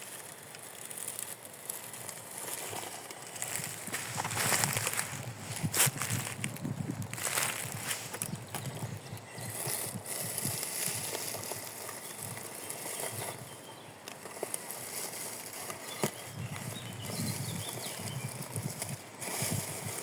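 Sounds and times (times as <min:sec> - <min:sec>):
tyres rustling on leaves: 0:00.0 - 0:20.0.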